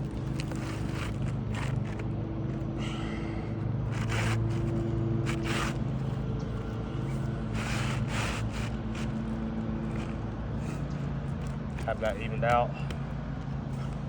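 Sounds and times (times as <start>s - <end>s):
roofing shingle scraping: 0.0s - 14.0s
steady low hum: 0.0s - 14.0s.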